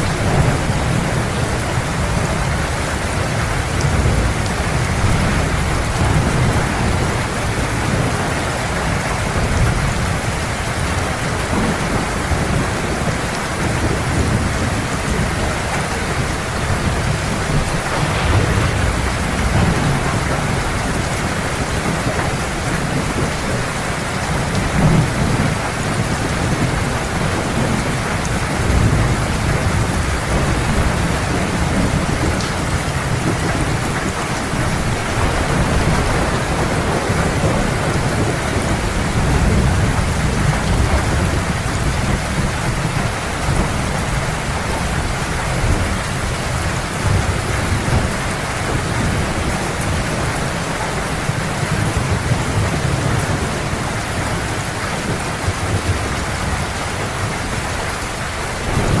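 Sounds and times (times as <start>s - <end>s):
heavy rain: 0.0s - 59.0s
low rolling thunder: 0.0s - 59.0s.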